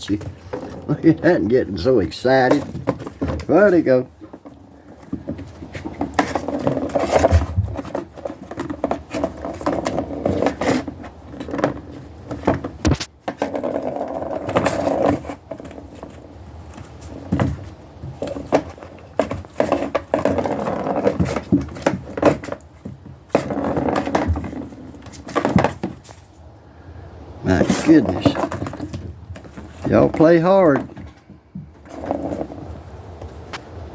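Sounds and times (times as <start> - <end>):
kittens scratching and scrambling: 0.0 - 33.9.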